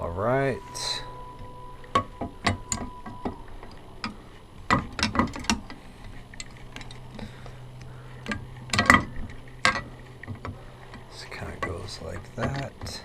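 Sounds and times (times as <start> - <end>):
faint low hum: 0.0 - 13.0
metal tools clicking and clinking: 0.6 - 13.0.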